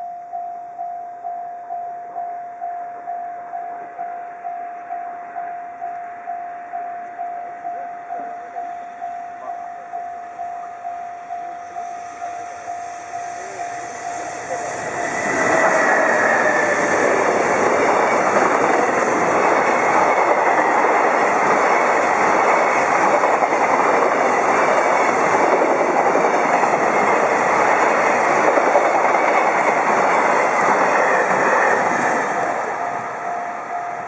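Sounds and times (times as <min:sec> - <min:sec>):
freight train passing: 0:01.2 - 0:34.0.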